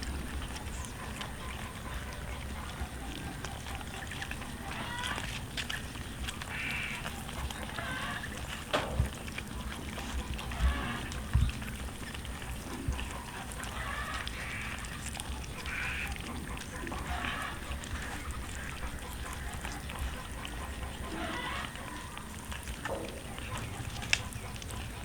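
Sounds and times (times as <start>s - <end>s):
cats calling: 0.0s - 25.0s
cats eating: 0.0s - 25.0s.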